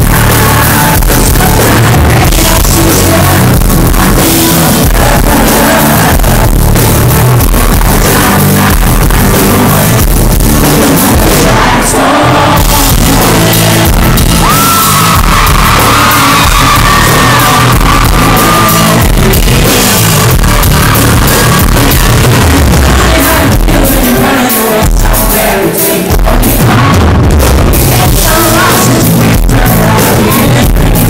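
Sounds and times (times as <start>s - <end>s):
drums: 0.0s - 31.0s
electric guitar: 0.0s - 31.0s
man singing: 0.0s - 31.0s.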